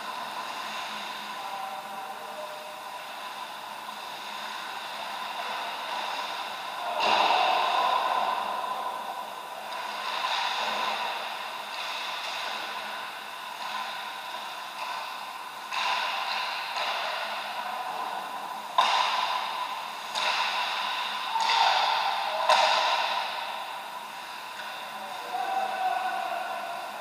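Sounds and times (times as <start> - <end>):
ice rink crowd noise: 0.0 - 27.0.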